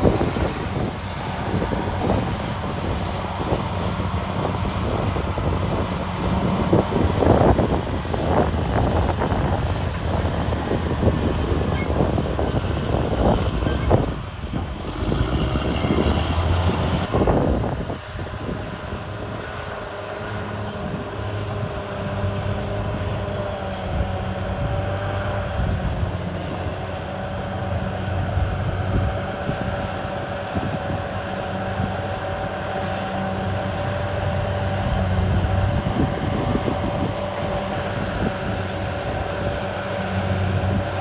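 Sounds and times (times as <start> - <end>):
bulldozer diesel engine running: 0.0 - 41.0
steel tracks squealing: 0.0 - 41.0.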